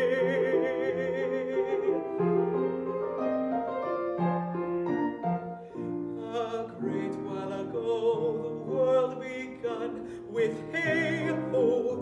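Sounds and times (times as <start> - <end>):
piano accompaniment: 0.0 - 12.0.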